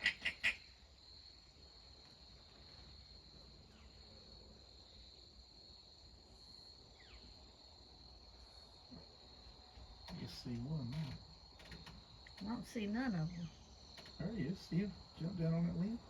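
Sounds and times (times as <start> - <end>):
crickets trilling: 0.0 - 16.0
faint outdoor background: 0.0 - 16.0.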